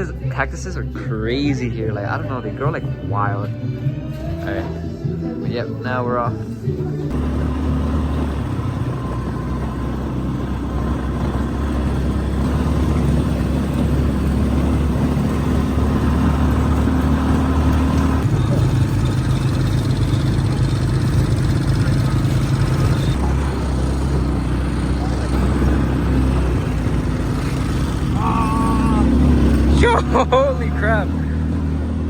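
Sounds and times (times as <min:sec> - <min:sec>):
quad bike engine running: 0:00.0 - 0:32.0.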